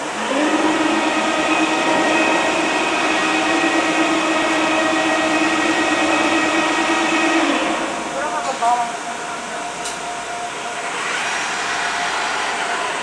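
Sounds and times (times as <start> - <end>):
elevator machinery humming: 0.0 - 13.0.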